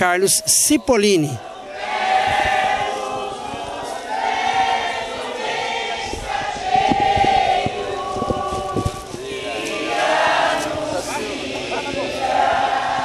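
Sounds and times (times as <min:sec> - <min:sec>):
crowd singing together: 0:00.1 - 0:13.0.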